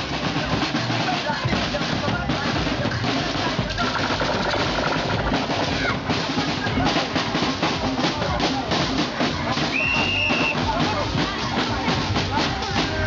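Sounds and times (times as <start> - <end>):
bass drum: 0.0 - 13.0
street drums playing fast rhythm: 0.0 - 13.0.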